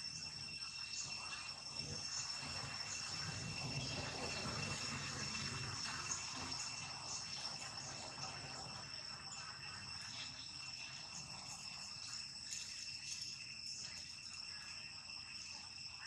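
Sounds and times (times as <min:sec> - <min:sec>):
faint high-pitched insect drone: 0:00.0 - 0:16.0.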